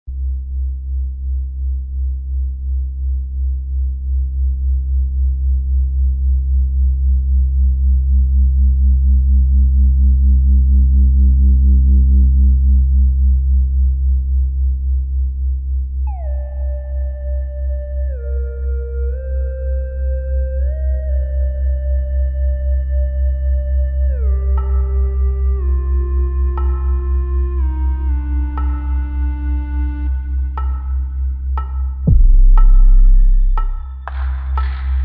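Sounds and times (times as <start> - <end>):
deep pulsing synthesizer drone: 0.1 - 35.0.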